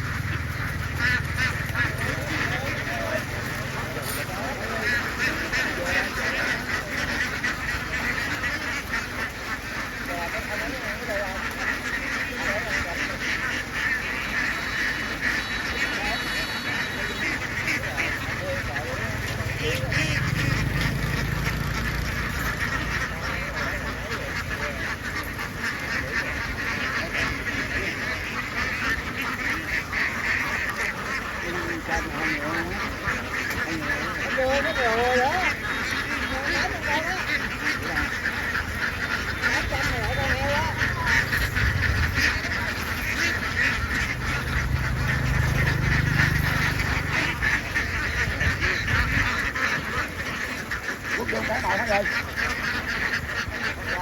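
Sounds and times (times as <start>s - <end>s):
flock of ducks quacking: 0.0s - 54.0s.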